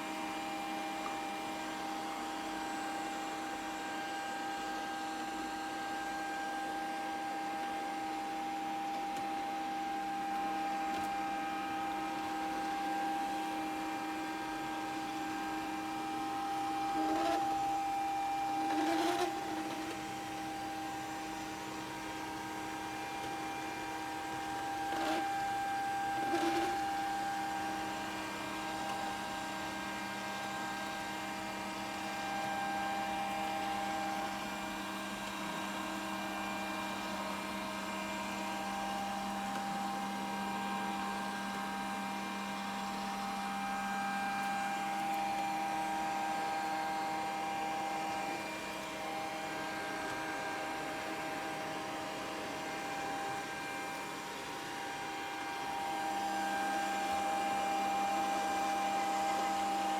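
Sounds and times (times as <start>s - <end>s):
robot vacuum motor whine: 0.0s - 59.9s.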